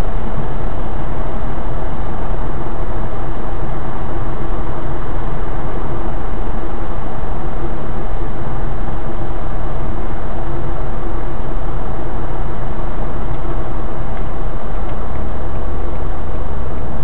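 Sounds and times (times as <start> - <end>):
car engine and tyre rumble: 0.0 - 17.0
low hum: 0.0 - 17.0.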